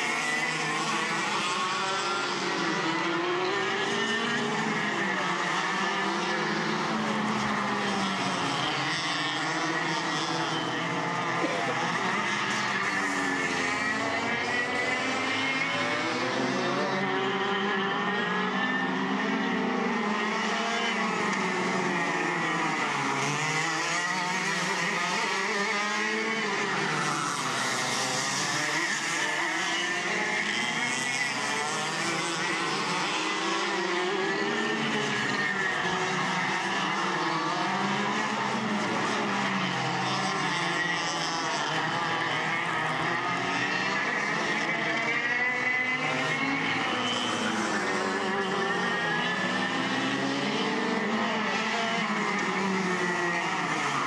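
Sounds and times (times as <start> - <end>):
go-kart engines racing: 0.0 - 54.0.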